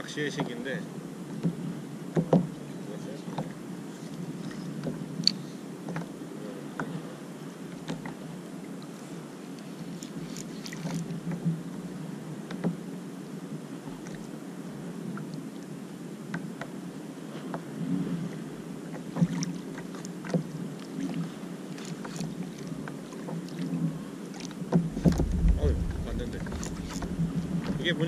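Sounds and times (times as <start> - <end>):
water lapping against kayak hull: 0.0 - 13.0, 13.6 - 28.0.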